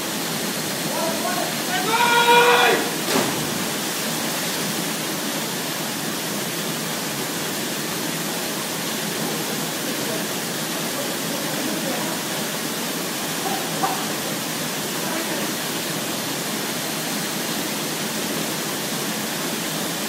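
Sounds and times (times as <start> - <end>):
waterfall pouring: 0.0 - 20.0.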